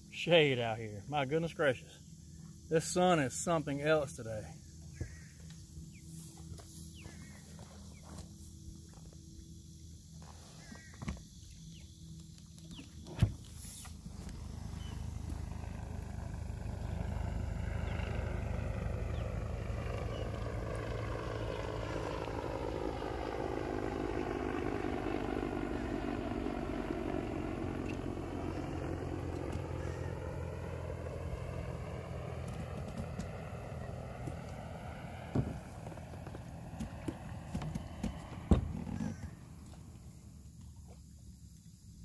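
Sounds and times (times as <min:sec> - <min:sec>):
helicopter flying overhead: 0:00.0 - 0:40.6.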